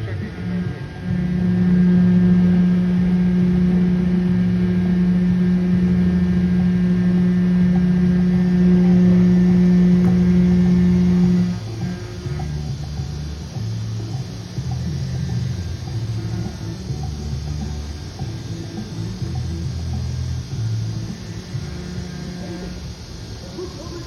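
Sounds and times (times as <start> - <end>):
loud low hum: 0.0 - 24.0.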